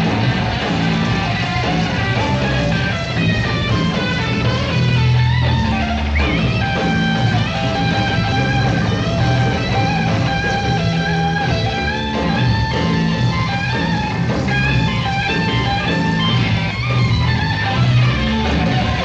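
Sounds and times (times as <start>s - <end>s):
bass guitar: 0.0s - 19.0s
drums: 0.0s - 19.0s
electric guitar lead: 0.0s - 19.0s.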